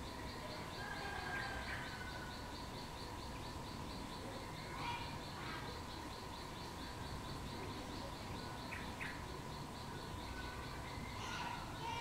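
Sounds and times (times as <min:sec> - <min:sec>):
bird chirping calls: 0:00.0 - 0:12.0
faint steady hum: 0:00.0 - 0:12.0.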